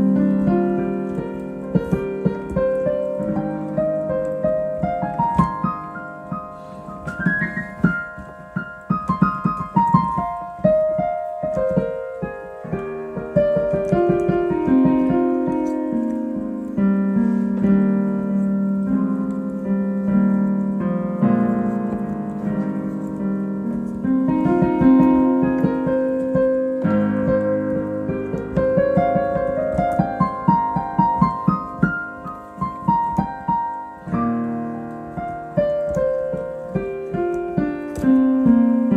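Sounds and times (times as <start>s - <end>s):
solo piano piece: 0.0s - 38.9s.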